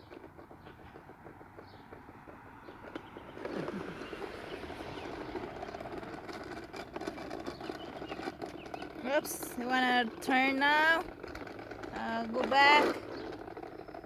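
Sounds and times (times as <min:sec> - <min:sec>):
toy lawnmower clicking and rattling: 0:00.0 - 0:14.0.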